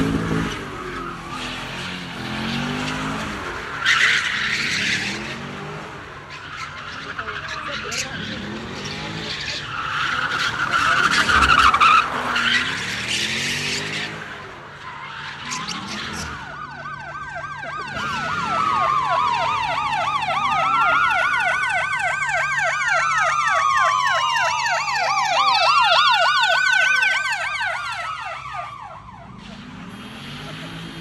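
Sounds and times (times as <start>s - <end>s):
police siren wailing: 0.0s - 31.0s
police siren yelping: 0.0s - 31.0s.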